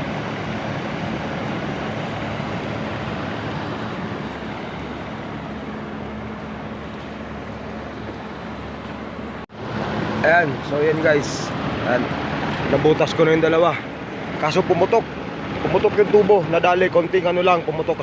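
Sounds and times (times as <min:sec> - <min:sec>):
water rushing from burst pipe: 0:00.0 - 0:16.0.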